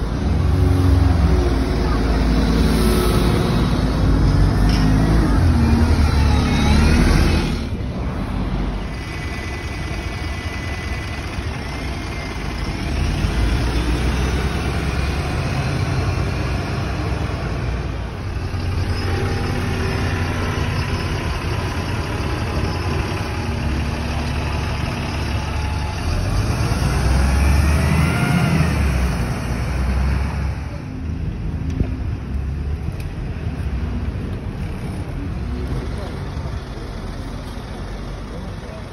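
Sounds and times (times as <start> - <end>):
bus engine rumble: 0.0 - 38.9
road noise: 0.0 - 38.9
street traffic: 0.0 - 38.9.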